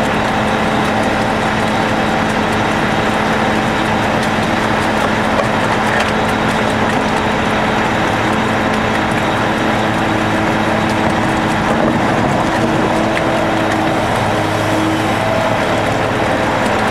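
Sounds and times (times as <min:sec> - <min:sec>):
heavy diesel machinery digging: 0:00.0 - 0:16.9.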